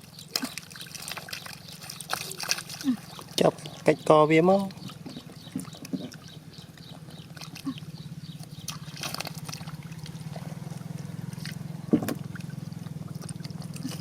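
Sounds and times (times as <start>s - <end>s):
shallow water splashing: 0.0s - 14.0s
steady low hum: 0.0s - 14.0s.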